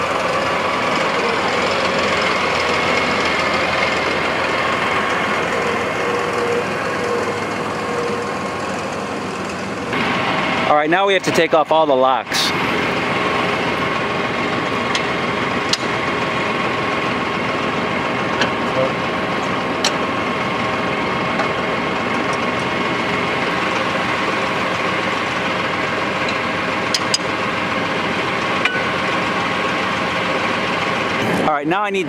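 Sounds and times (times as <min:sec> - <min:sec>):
tractor diesel engine idling: 0:00.0 - 0:32.0.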